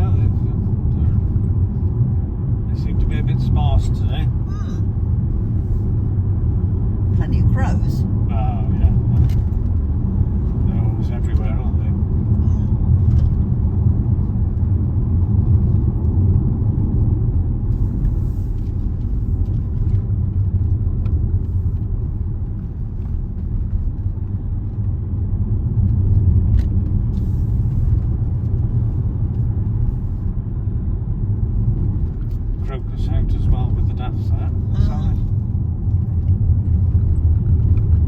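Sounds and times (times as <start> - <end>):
car engine and road noise: 0.0 - 38.0.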